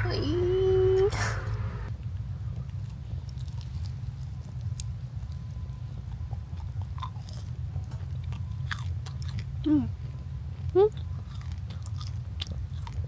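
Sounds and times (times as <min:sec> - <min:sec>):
low hum: 0:00.0 - 0:13.0
chewing a croissant: 0:02.0 - 0:13.0.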